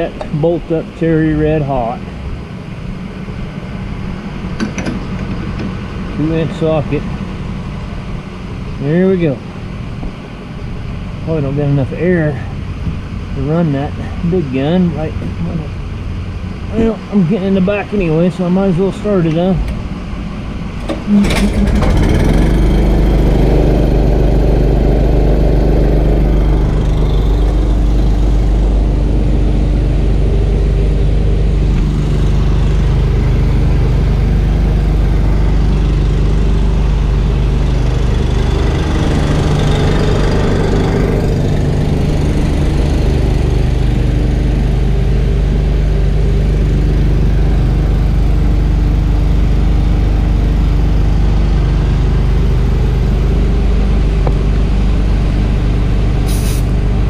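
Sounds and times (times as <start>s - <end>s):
air compressor engine running: 0.0s - 57.0s.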